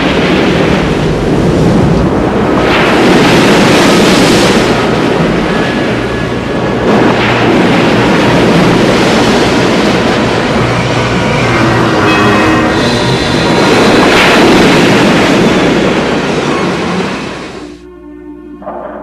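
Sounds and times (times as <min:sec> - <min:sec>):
heavy storm surf: 0:00.0 - 0:17.8
wind: 0:00.0 - 0:19.0.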